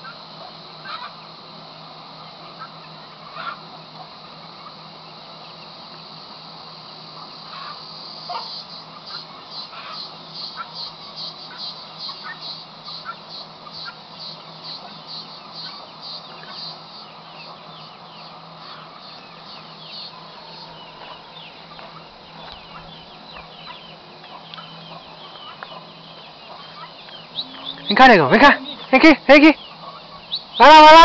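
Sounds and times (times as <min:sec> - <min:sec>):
chickens clucking: 0:00.0 - 0:01.4, 0:06.8 - 0:30.7
faint steady hum: 0:00.0 - 0:31.0.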